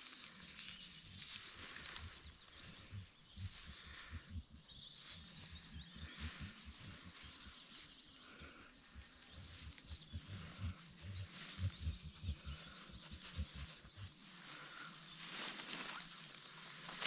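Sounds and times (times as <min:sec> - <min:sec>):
birds chirping in trills: 0:00.0 - 0:17.0
faint low rumble: 0:00.2 - 0:15.7.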